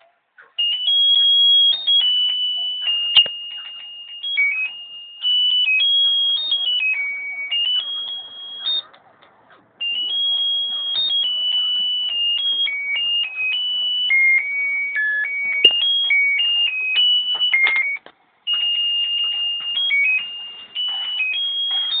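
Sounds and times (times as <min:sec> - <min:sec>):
tinny electronic toy melody: 0:00.4 - 0:09.1, 0:09.8 - 0:22.0.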